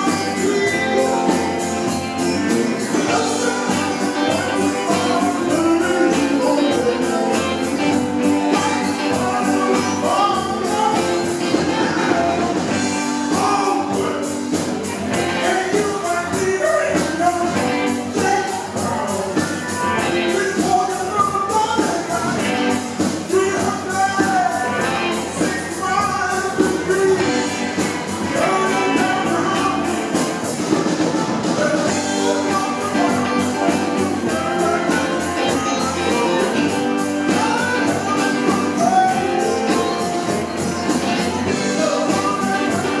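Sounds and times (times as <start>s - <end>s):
drums steady beat: 0.0s - 43.0s
live rock band playing: 0.0s - 43.0s.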